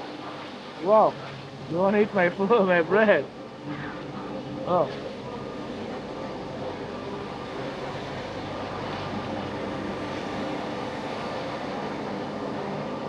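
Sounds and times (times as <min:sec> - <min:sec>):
faint engine tones: 0:00.0 - 0:13.0.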